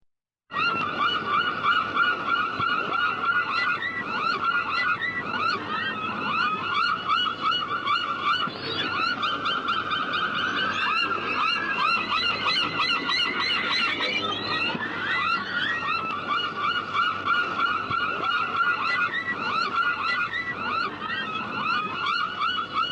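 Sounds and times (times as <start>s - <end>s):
flock of birds calling: 0.5s - 22.9s.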